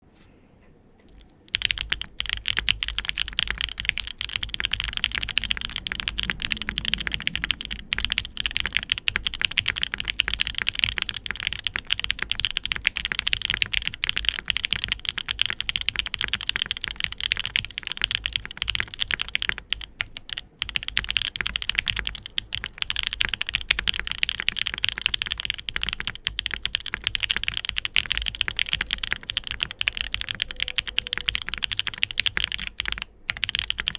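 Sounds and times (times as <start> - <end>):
fast mechanical keyboard typing: 1.1 - 33.9.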